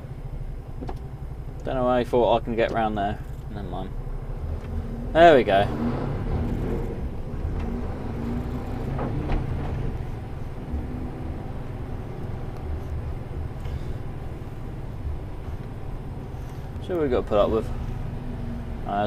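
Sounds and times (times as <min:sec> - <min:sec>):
lorry diesel engine rumbling: 0:00.0 - 0:19.0.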